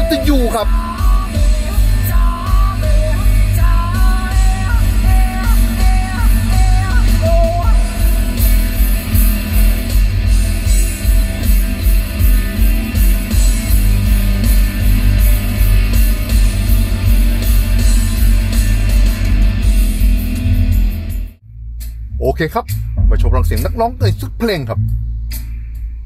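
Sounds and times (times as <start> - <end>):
rock music with electric guitar: 0.0 - 21.4
heavy deep bass from subwoofers: 0.0 - 26.0.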